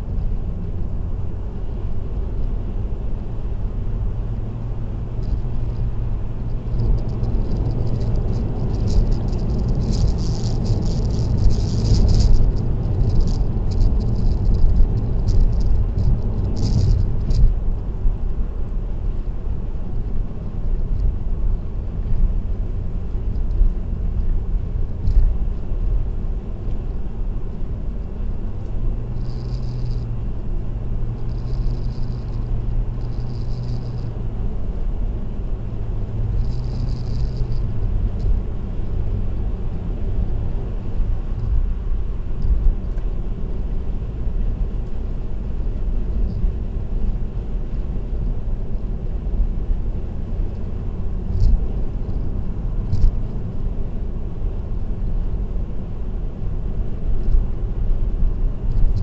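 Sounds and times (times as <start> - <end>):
low hum: 0.0 - 59.0
road and tyre noise: 0.0 - 59.0.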